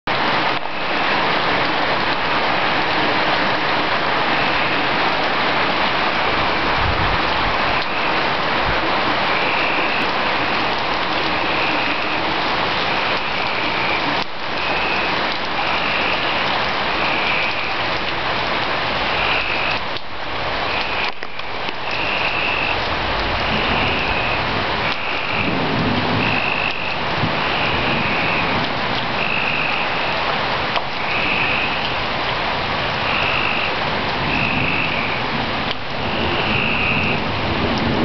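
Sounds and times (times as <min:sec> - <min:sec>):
rain on hard surfaces: 0:00.1 - 0:38.0.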